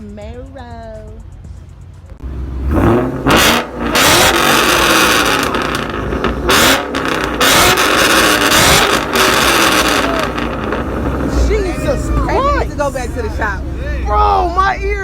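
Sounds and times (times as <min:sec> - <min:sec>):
car engine revving hard: 0:02.2 - 0:14.7.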